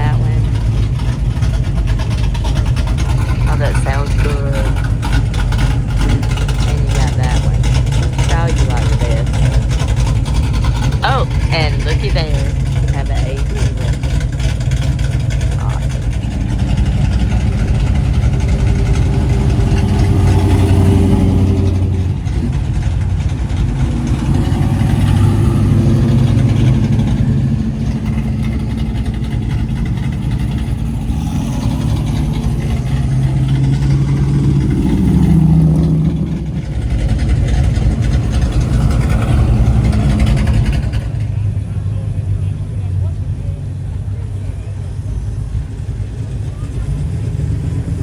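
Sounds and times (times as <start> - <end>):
cars driving past: 0.0 - 48.0.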